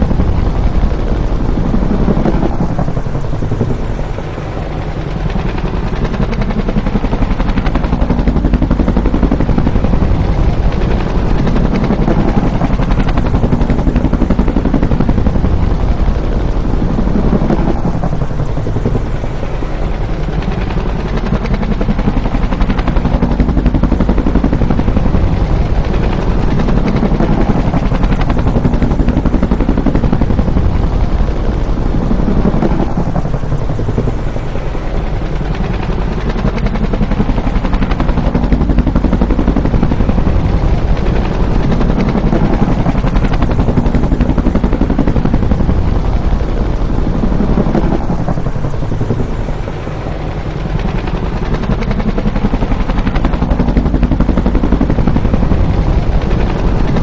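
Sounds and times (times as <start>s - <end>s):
helicopter rotor beating: 0.0s - 57.0s.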